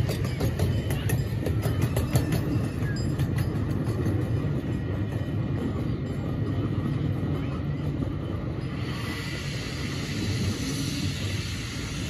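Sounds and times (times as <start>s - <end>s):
train cars rumbling on track: 0.0s - 12.0s.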